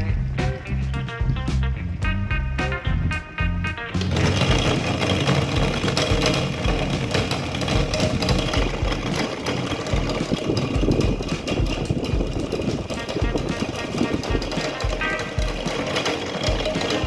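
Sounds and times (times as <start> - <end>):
electric fan rattling: 0.0 - 17.0.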